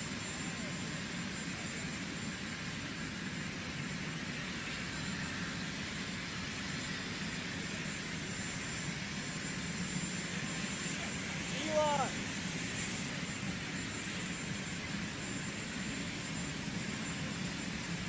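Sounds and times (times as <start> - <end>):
jet aircraft engine noise: 0.0 - 18.0.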